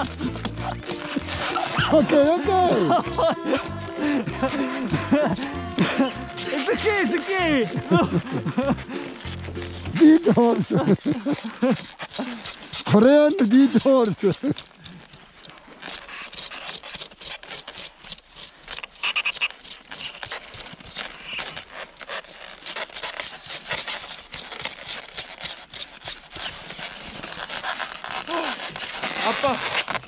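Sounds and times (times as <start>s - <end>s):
ice scraping and crackling: 0.0s - 30.0s.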